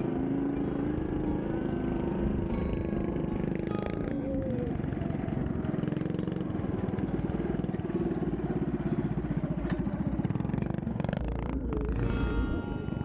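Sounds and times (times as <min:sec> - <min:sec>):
small gas engine running: 0:00.0 - 0:13.0.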